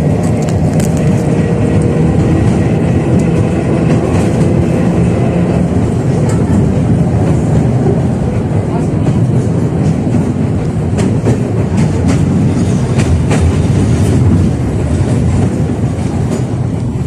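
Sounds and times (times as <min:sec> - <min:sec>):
tram wheels rumbling: 0:00.0 - 0:17.0.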